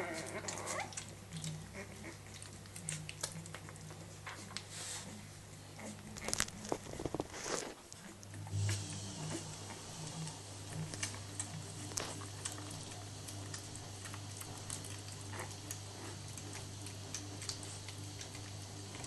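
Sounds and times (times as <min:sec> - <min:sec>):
puppies suckling wet clicks: 0:00.0 - 0:19.0
steady low hum: 0:00.0 - 0:19.0.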